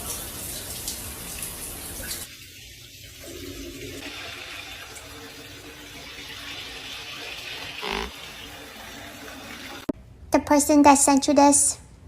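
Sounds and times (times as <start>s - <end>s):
shower water running: 0.0s - 9.9s.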